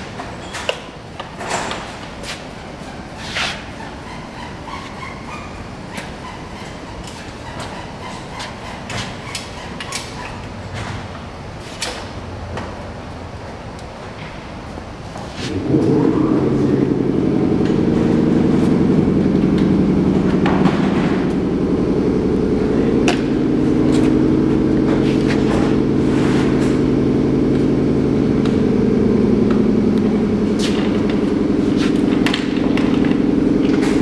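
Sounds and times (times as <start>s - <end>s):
machine droning: 0.0s - 34.0s.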